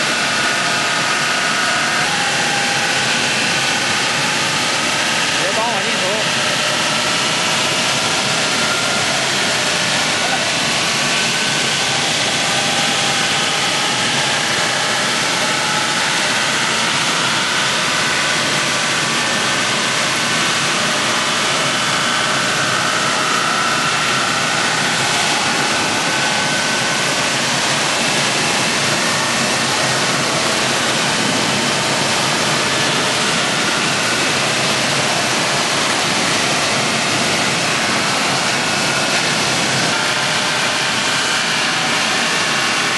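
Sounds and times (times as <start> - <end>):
wood chipper running: 0.0 - 42.9.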